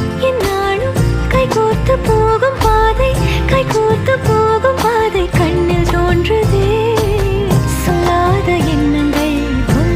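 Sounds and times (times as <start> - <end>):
sung melody over a steady beat: 0.0 - 9.9.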